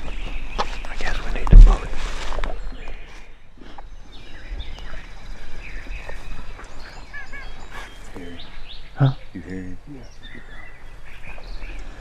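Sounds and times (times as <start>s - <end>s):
other birds calling: 0.0s - 12.0s.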